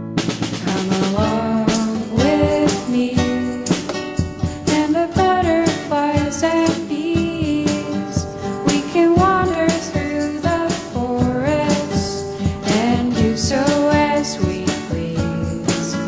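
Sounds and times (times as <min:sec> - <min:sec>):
song with guitar and vocals: 0:00.0 - 0:16.0.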